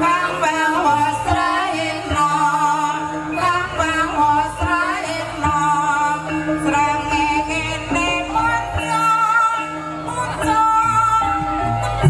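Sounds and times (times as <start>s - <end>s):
gamelan music over loudspeakers: 0.0s - 12.0s
person singing: 0.0s - 12.0s.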